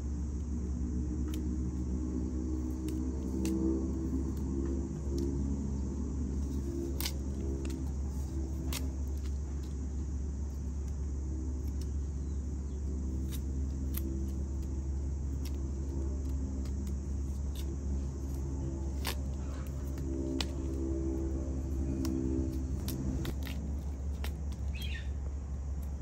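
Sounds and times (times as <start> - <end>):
steady low rumble: 0.0 - 26.0
knife peeling root skin: 1.0 - 26.0.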